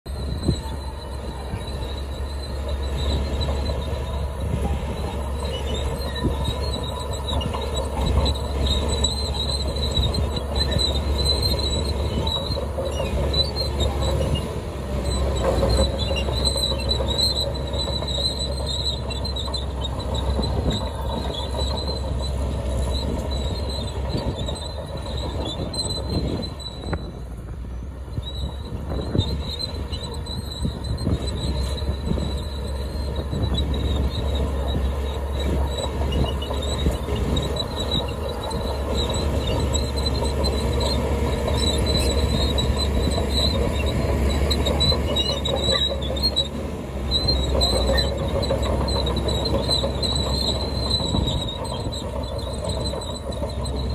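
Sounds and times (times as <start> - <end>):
bulldozer diesel engine under load: 0.0 - 53.9
steel tracks squealing and clanking: 0.1 - 53.9.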